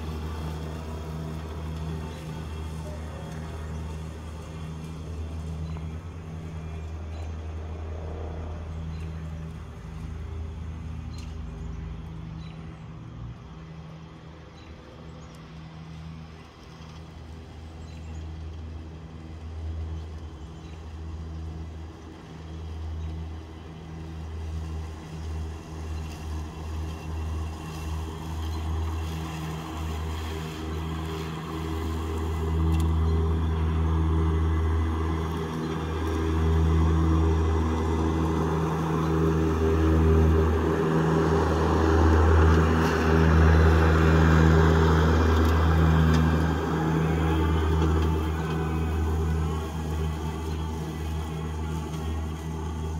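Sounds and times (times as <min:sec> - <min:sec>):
electric riding mower humming: 0:00.0 - 0:52.9.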